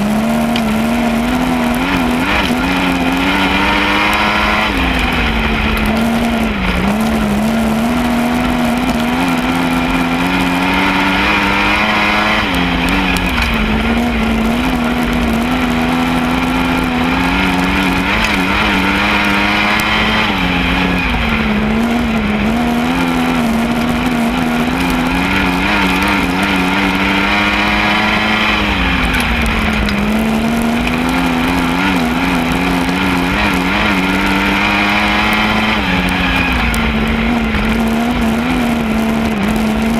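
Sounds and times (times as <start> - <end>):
low rumble: 0.0 - 34.7, 35.5 - 39.9
race car engine revving: 0.0 - 39.9.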